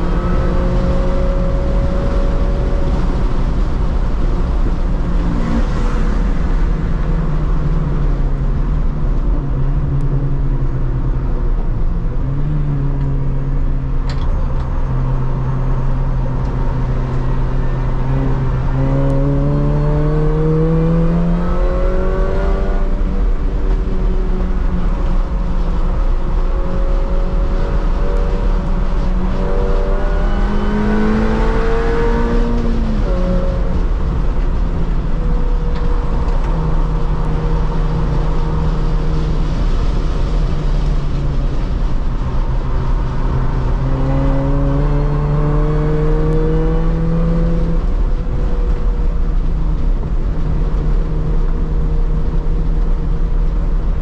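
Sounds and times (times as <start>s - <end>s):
car engine revving: 0.0s - 54.0s
road and wind rumble: 0.0s - 54.0s.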